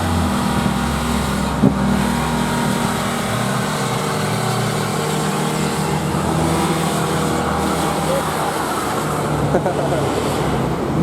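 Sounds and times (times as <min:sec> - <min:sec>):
car engines running: 0:00.0 - 0:11.0
loud engine blip: 0:00.0 - 0:11.0.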